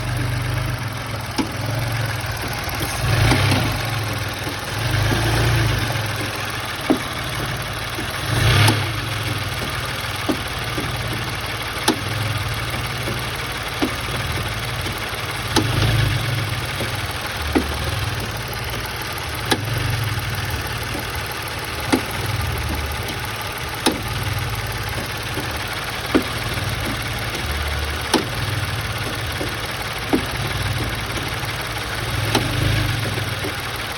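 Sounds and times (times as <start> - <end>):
car engine idling: 0.0 - 33.9
sharp engine knock: 0.0 - 33.9.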